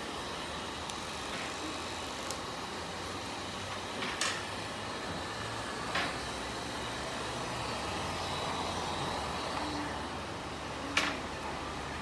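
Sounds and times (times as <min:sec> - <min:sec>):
blow dryers running: 0:00.0 - 0:12.0.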